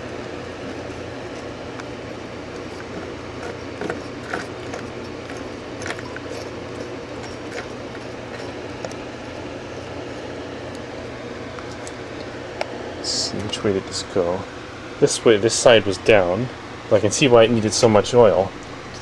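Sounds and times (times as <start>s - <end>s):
compressor motor hum: 0.0s - 19.0s.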